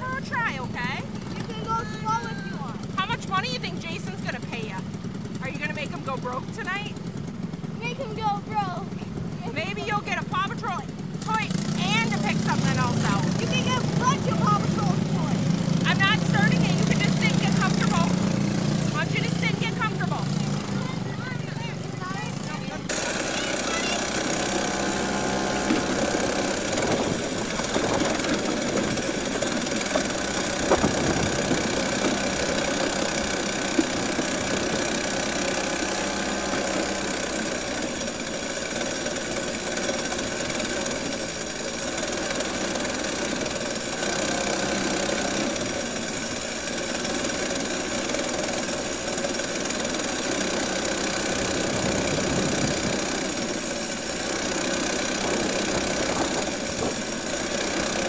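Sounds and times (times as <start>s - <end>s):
two-stroke kart engine running: 0.0s - 58.0s.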